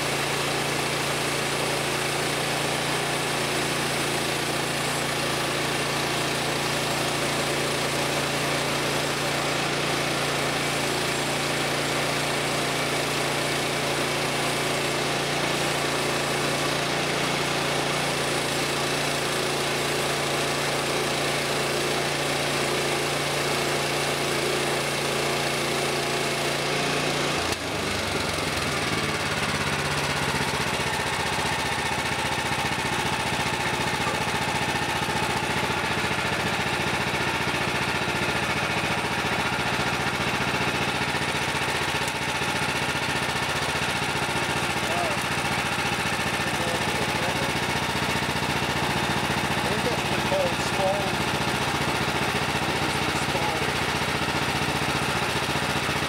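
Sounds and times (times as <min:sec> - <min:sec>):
band saw cutting log: 0:00.0 - 0:56.0
gas engine running: 0:00.0 - 0:56.0.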